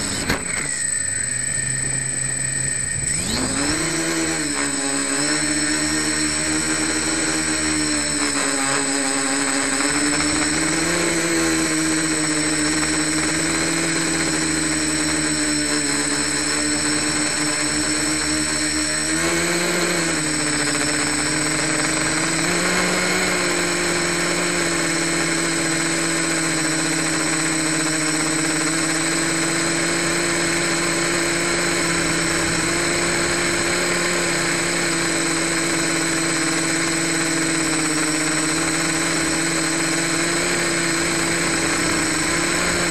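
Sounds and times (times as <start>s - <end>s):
quadcopter propellers buzzing: 0.0s - 42.9s
thin high whine: 0.0s - 42.9s.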